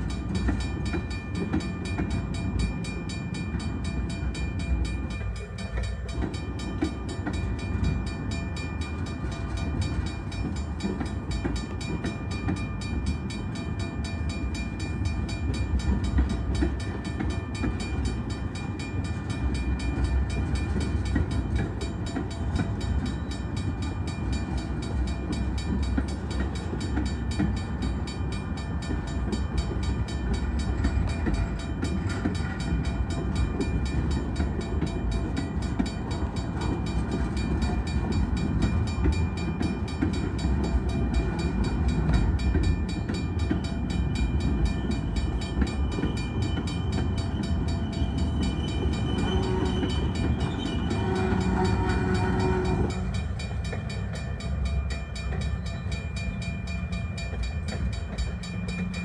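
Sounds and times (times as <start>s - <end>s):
crossing bell ringing: 0.0s - 59.0s
train wheels rumbling on rail: 0.0s - 59.0s.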